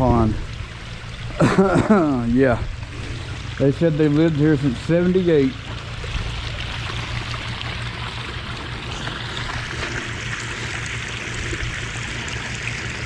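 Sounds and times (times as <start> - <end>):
creek water trickling: 0.0 - 13.0
low hum: 0.0 - 13.0.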